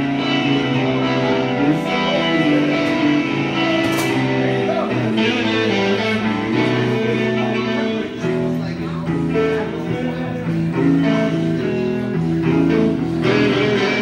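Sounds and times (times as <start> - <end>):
guitar chords: 0.0 - 14.0.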